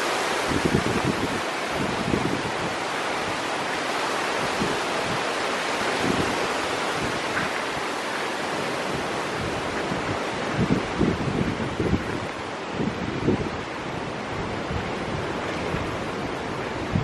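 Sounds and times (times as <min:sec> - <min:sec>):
strong wind rushing: 0:00.0 - 0:17.0
wind buffeting microphone: 0:00.0 - 0:17.0.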